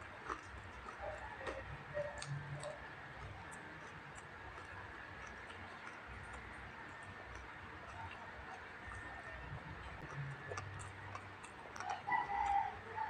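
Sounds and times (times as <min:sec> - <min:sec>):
wet chewing clicks: 0:00.0 - 0:13.0.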